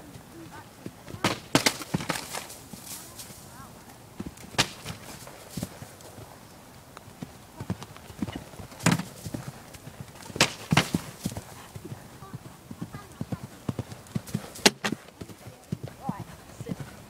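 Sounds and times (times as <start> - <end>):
hooves thudding on landing: 0.0 - 17.0
hooves trotting on sand: 0.0 - 17.0.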